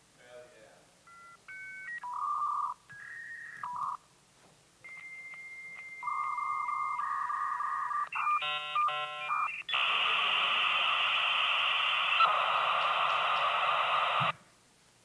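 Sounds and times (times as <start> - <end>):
dial-up modem tones and hiss: 1.1 - 4.0, 4.8 - 14.4.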